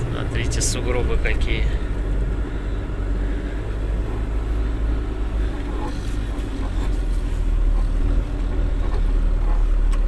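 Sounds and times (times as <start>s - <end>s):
truck diesel engine rumbling: 0.0s - 10.0s.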